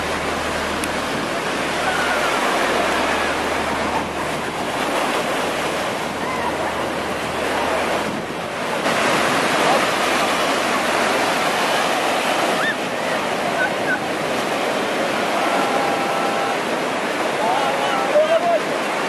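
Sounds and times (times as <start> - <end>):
wind on microphone: 0.0 - 18.0
surf breaking: 0.0 - 19.0.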